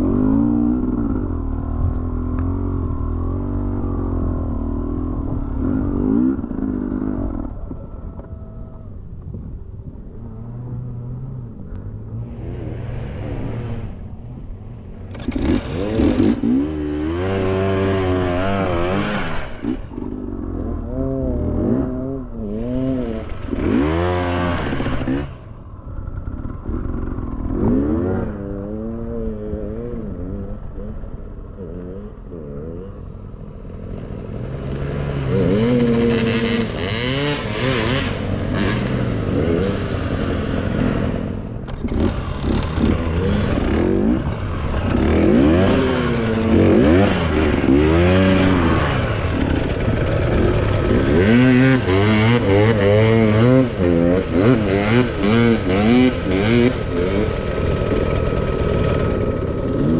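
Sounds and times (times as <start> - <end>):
dirt bike engine revving: 0.0 - 8.0, 10.0 - 59.9.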